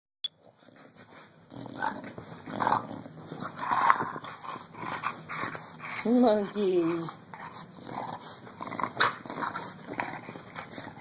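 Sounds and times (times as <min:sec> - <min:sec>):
dogs growling: 0:00.5 - 0:11.0.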